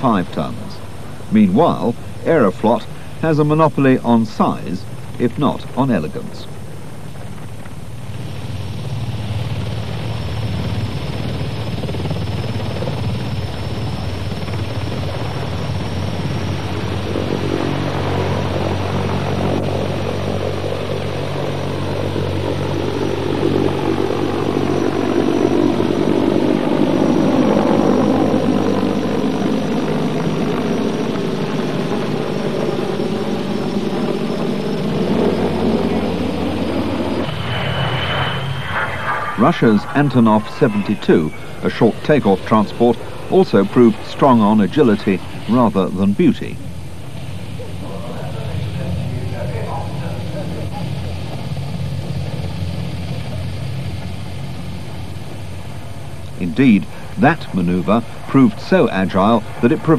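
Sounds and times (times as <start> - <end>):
helicopter deep drone: 0.0 - 59.9.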